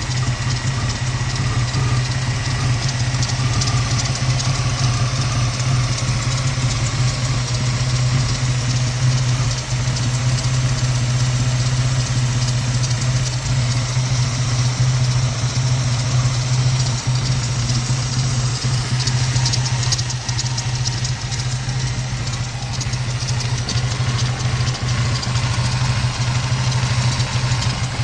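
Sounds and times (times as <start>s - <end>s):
car engine idling rough: 0.0s - 28.0s.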